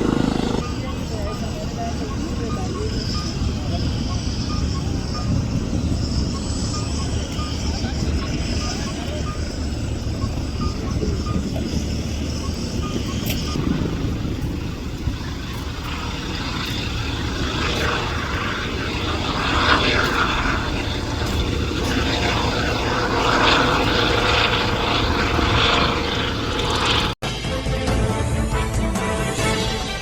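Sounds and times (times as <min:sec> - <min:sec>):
helicopter engine and rotor: 0:00.0 - 0:27.8.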